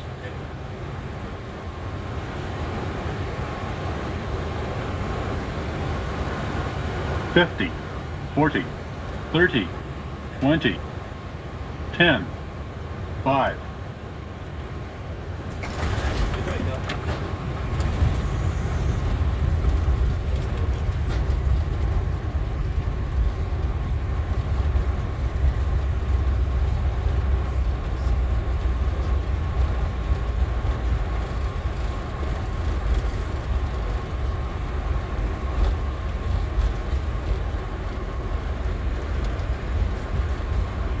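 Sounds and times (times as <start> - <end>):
faint steady whine: 0.0 - 41.0
low rumble of wheels and airflow: 0.0 - 41.0.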